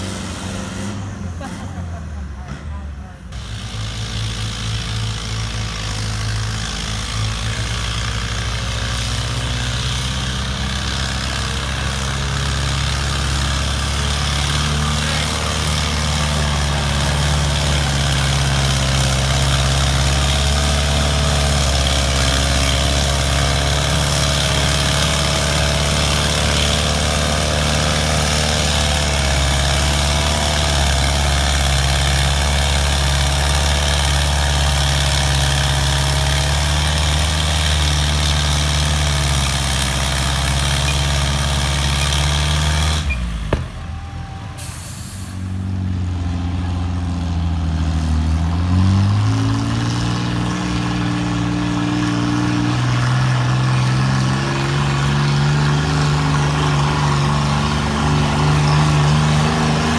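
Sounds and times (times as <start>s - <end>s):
tractor engine working hard: 0.0s - 59.9s.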